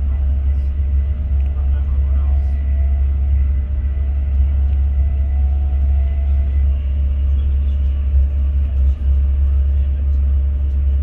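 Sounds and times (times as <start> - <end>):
faint steady whine: 0.0 - 11.0
train low rumble: 0.0 - 11.0.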